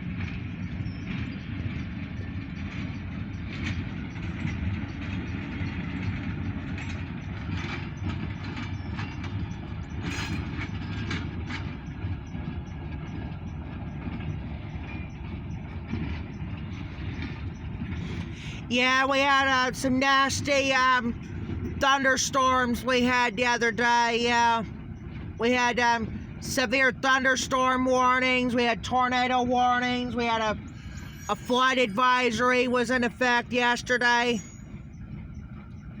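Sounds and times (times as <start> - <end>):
diesel locomotive rumble: 0.0 - 36.0
wheels clicking and clanking on rails: 0.0 - 36.0.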